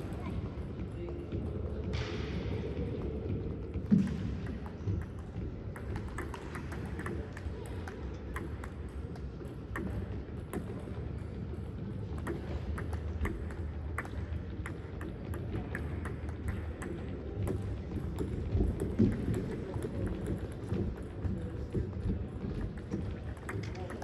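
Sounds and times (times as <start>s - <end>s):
players' footsteps: 0.0s - 24.0s.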